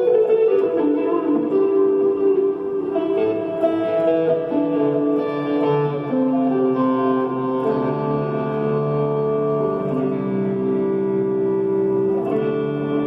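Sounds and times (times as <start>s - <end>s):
electric guitar slow melody: 0.0s - 13.0s.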